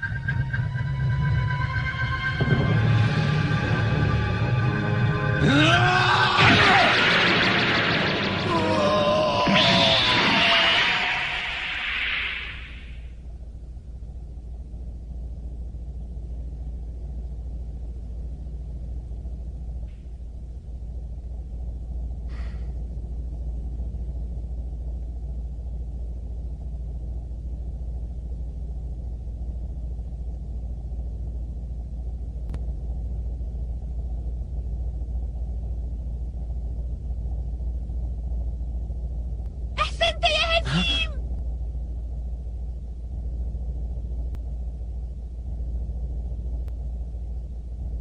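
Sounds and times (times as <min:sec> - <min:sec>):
low rumble: 0:00.0 - 0:48.0.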